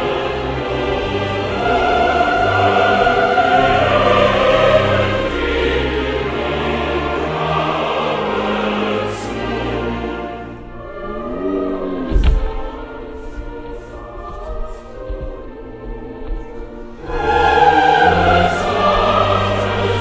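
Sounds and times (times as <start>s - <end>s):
choir singing long notes: 0.0s - 20.0s
orchestral strings: 0.0s - 20.0s.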